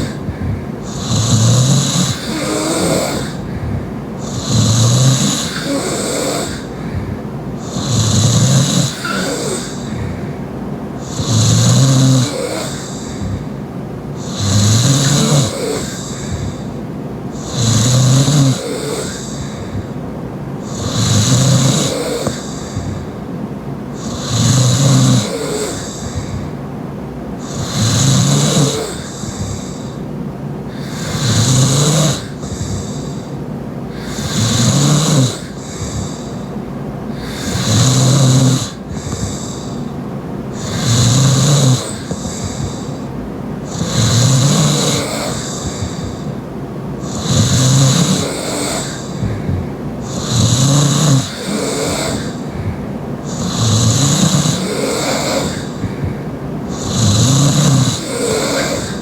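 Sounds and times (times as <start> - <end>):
loud snoring: 0.0 - 26.7, 27.3 - 59.0
quiet breathing: 0.0 - 59.0.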